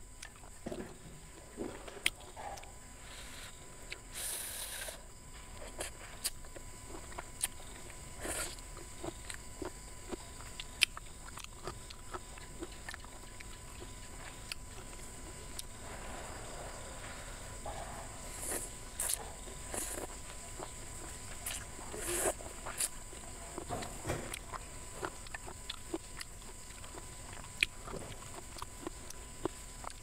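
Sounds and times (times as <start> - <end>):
chewing and crunching: 0.0 - 30.0
high insect trill: 0.0 - 30.0.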